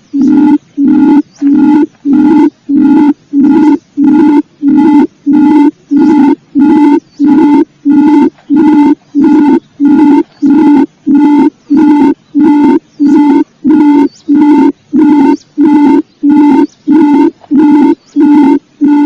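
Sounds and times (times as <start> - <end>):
quail hooting call: 0.0 - 19.0.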